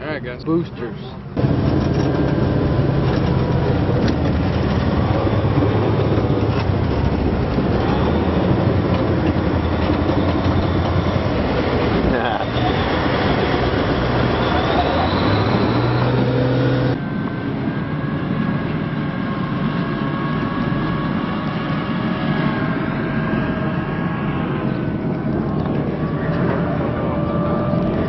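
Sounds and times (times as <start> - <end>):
drivetrain whine: 0.0 - 28.0
tracked vehicle engine drone: 0.0 - 28.0.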